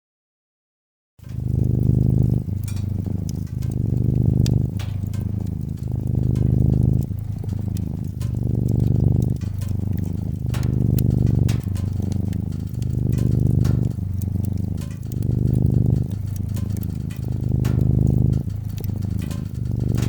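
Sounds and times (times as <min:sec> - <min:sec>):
cat purring: 0:01.2 - 0:20.0
fireplace crackles: 0:01.2 - 0:20.0.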